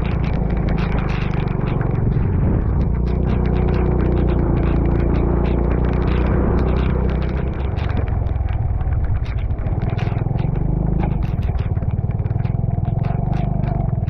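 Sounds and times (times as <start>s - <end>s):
motorcycle engine running: 0.0s - 14.0s
sharp ticks and clatter: 0.0s - 14.0s.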